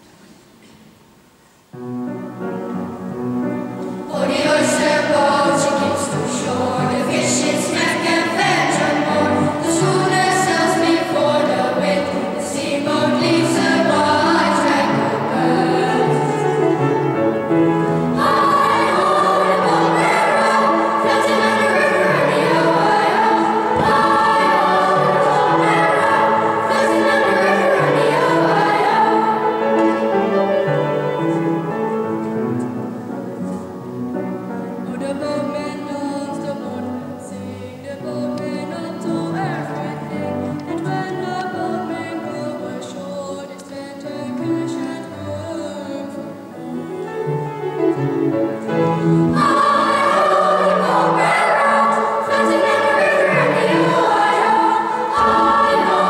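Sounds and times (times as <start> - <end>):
children's choir singing: 3.6 - 33.4, 34.9 - 56.0.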